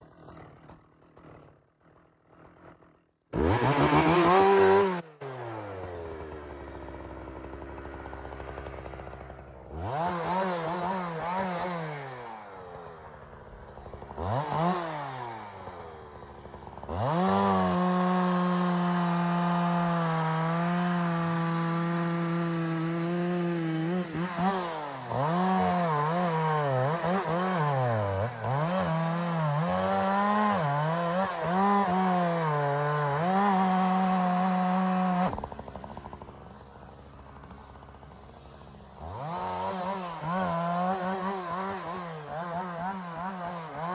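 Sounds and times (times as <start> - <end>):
chainsaw revving: 0.0 - 43.9.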